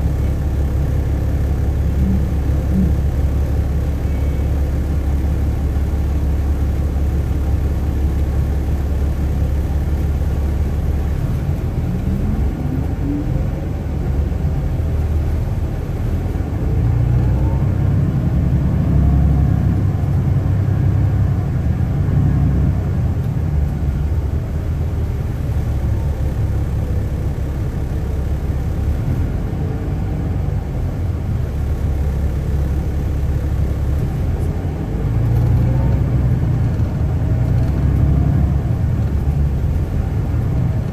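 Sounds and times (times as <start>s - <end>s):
bus engine rumble: 0.0s - 40.9s
rising bus whine: 0.0s - 40.9s.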